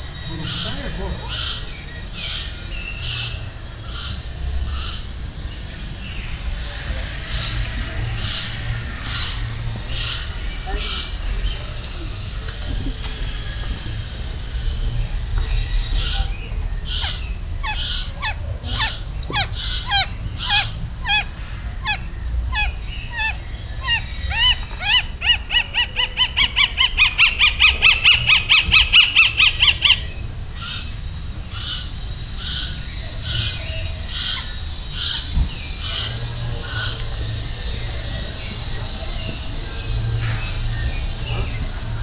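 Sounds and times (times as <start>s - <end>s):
bird calling: 0.0s - 42.0s
low background rumble: 0.0s - 42.0s.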